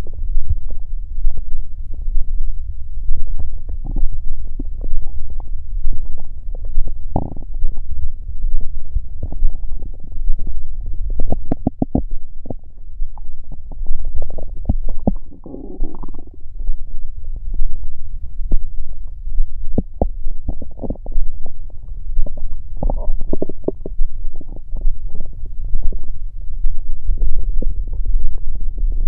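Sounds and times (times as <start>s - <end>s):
steady low rumble: 0.0s - 29.0s
stomach growling and gurgling: 0.0s - 29.0s.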